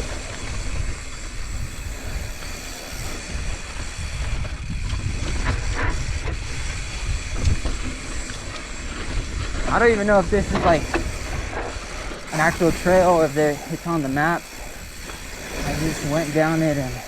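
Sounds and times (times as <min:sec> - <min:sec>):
bike rolling on dirt trail: 0:00.0 - 0:17.0
wind buffeting microphone: 0:00.0 - 0:17.0.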